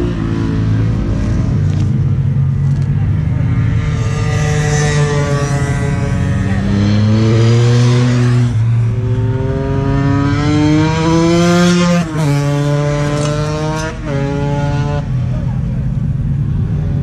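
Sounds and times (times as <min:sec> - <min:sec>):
motorcycle engine accelerating hard: 0:00.0 - 0:17.0.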